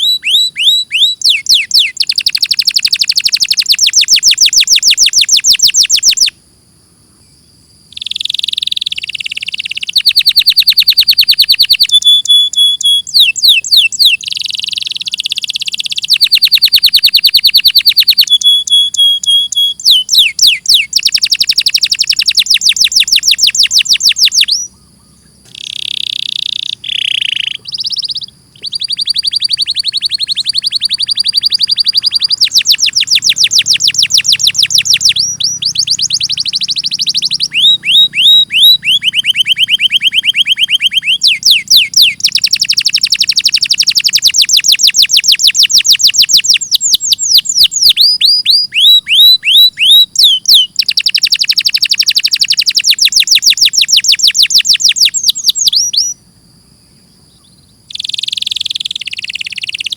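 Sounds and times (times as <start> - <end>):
canary singing trills: 0.0 - 6.4, 7.1 - 56.3, 57.0 - 59.9.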